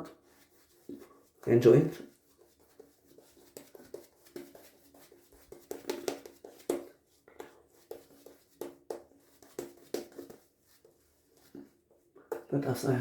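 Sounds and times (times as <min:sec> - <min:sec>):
shaving brush swishing on face: 0:00.0 - 0:12.0.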